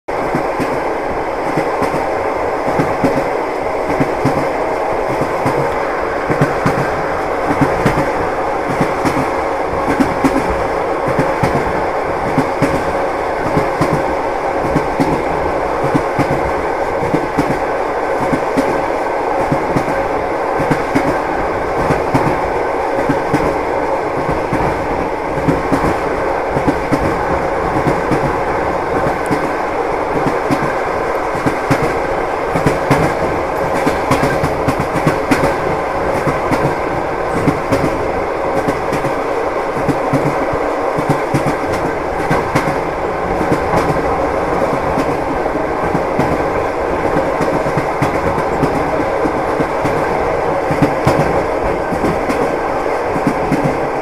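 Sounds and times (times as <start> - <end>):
train wheels rumbling on rail: 0.1 - 54.0.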